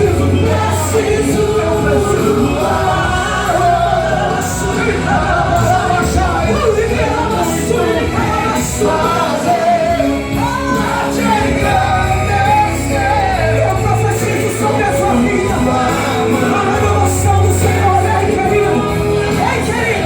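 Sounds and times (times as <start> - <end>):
live worship band playing: 0.0 - 20.0.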